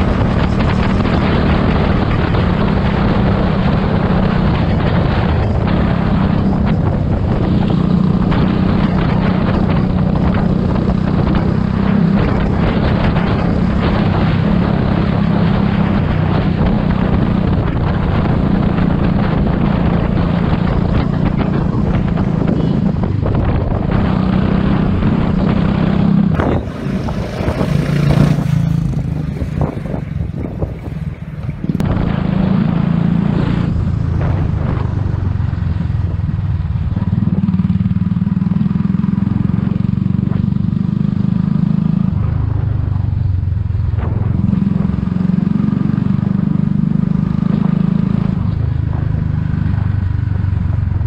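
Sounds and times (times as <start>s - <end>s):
motorcycle engine running: 0.0s - 51.0s
wind noise on microphone: 0.0s - 51.0s.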